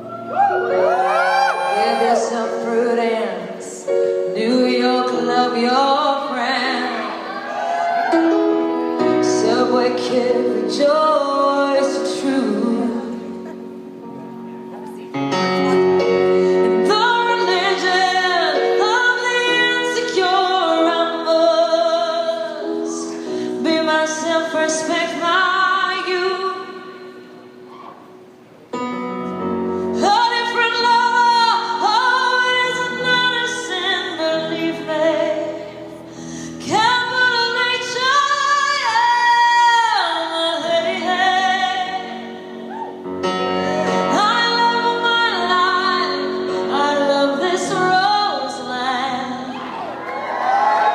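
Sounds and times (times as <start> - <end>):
piano accompaniment: 0.0 - 50.9
woman singing slow song: 0.1 - 13.9, 15.6 - 27.9, 29.8 - 50.9.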